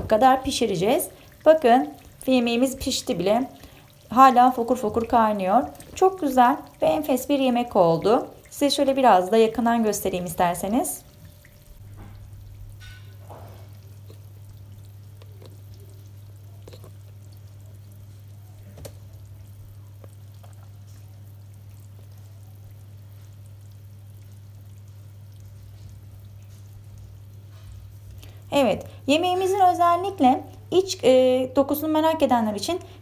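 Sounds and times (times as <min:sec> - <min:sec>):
casserole bubbling and crackling: 0:00.0 - 0:33.0
steady low hum: 0:00.0 - 0:33.0.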